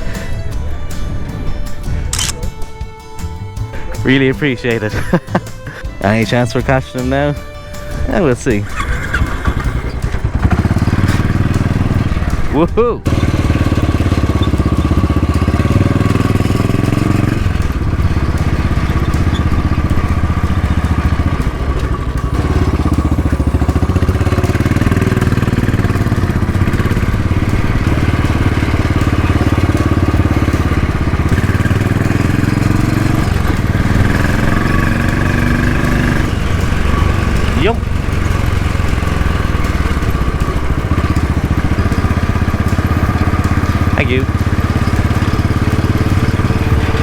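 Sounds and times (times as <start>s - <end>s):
motorcycle engine changing gears: 0.0s - 47.0s.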